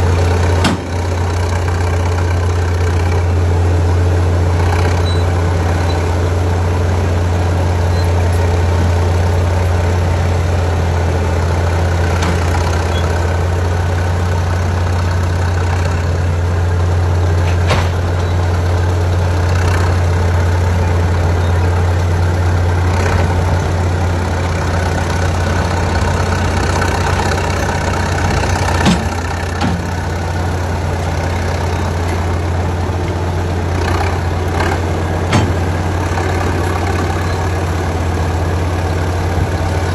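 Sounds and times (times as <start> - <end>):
loader engine running steadily: 0.0 - 39.9.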